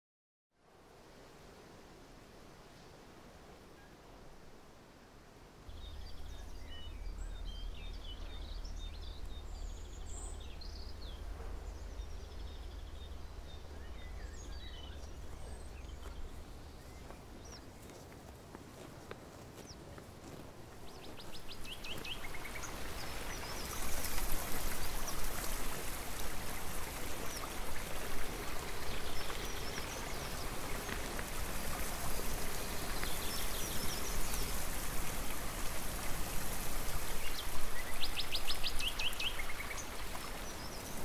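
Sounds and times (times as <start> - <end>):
river running over stones: 5.4 - 41.0
songbird singing: 5.7 - 41.0.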